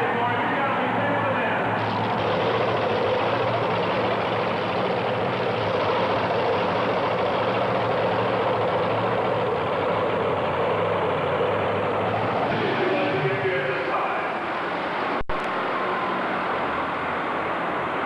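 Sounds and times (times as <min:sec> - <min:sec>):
truck engine running loudly: 0:00.0 - 0:18.0.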